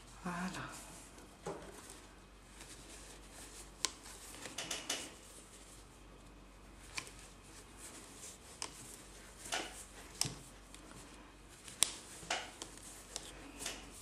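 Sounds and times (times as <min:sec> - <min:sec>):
yarn rustling: 0:00.0 - 0:14.0.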